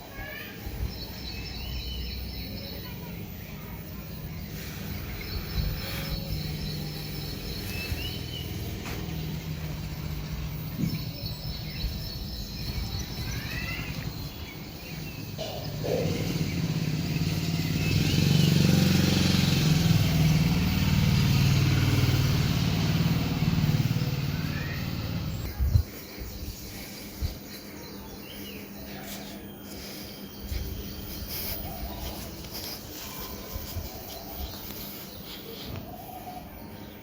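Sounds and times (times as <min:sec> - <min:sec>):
birds chirping: 0:00.0 - 0:37.0
motorcycle engine running: 0:03.8 - 0:35.8.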